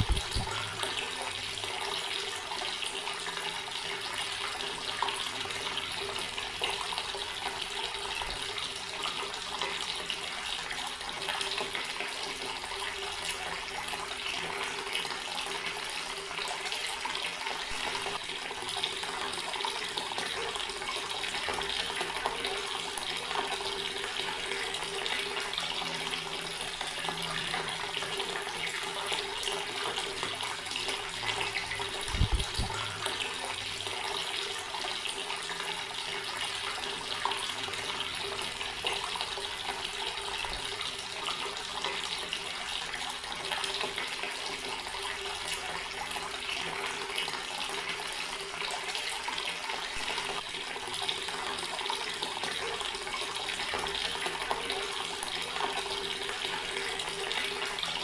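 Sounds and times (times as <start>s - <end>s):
water tap running: 0.0s - 58.0s.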